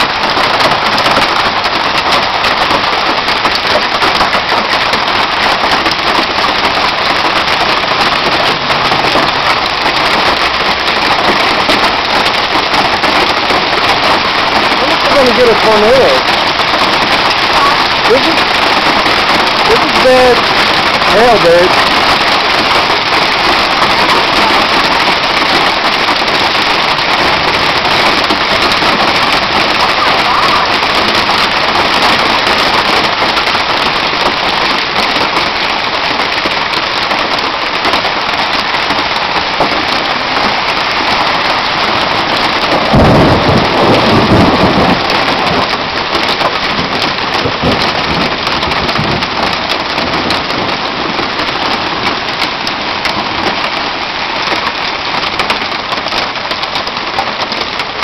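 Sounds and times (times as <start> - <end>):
thunder rumbling: 0.0 - 56.1
heavy hail pelting down: 0.0 - 58.0.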